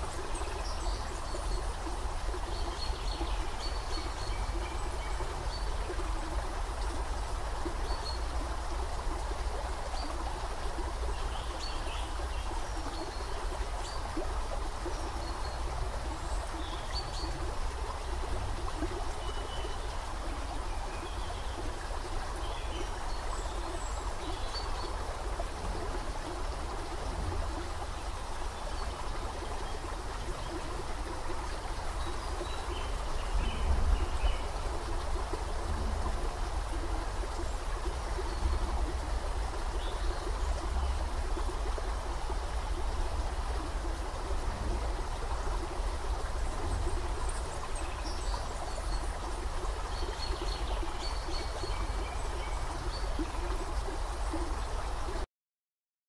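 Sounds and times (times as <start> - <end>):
creek running over riffles: 0.0 - 55.2.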